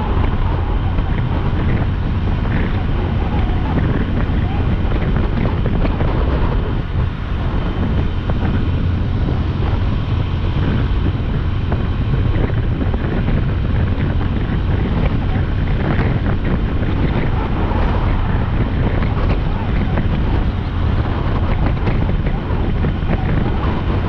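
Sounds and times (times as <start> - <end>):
motorcycle road and engine noise: 0.0 - 24.0
wind buffeting microphone: 0.0 - 24.0.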